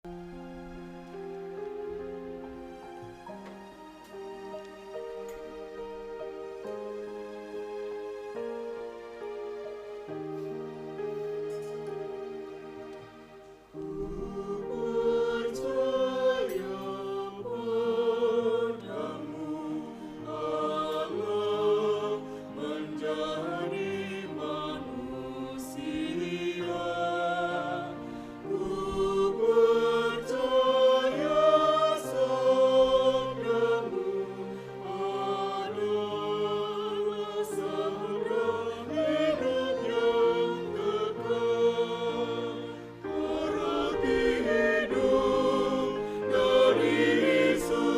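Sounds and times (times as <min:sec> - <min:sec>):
choir singing in harmony: 0:00.0 - 0:47.9.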